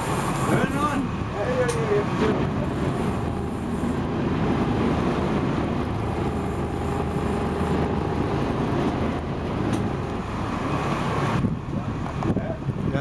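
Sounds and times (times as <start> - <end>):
boat engine humming: 0.0 - 13.0
wind and water hiss: 0.0 - 13.0.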